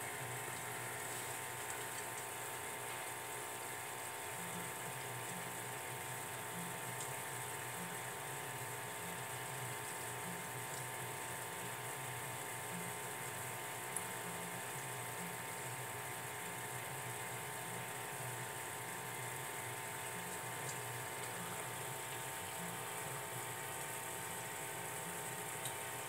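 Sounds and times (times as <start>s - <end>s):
aquarium pump humming: 0.0s - 26.0s.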